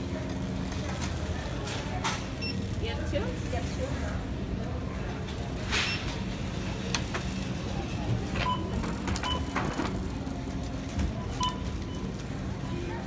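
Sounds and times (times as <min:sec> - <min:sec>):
shopping cart rolling: 0:00.0 - 0:13.0.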